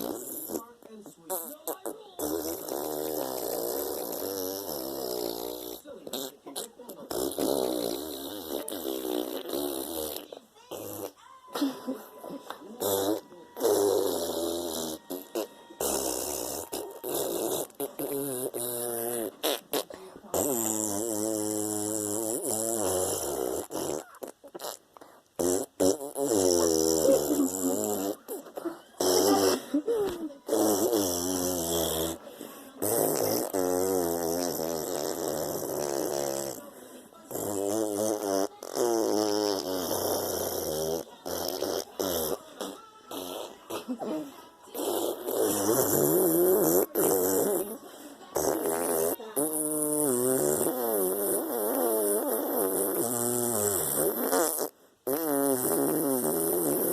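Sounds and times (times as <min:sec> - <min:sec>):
fart sounds: 0:00.0 - 0:56.9.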